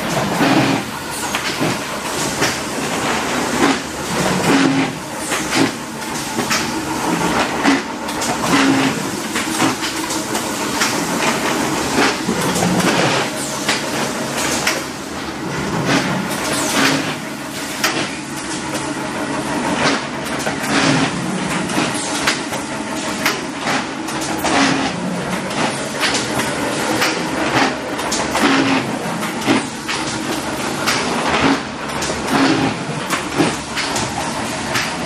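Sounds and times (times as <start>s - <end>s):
machine clattering: 0.0s - 35.0s.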